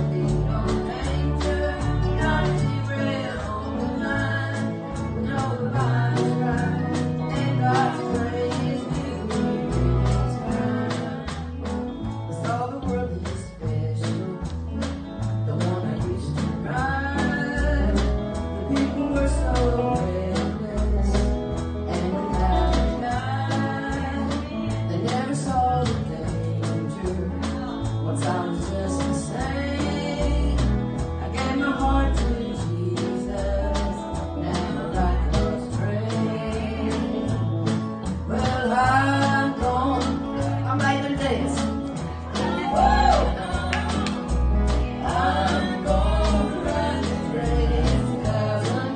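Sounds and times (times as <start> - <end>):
voices singing: 0.0 - 14.4, 15.4 - 48.9
bass line: 0.0 - 48.9
electric guitar: 0.0 - 48.9.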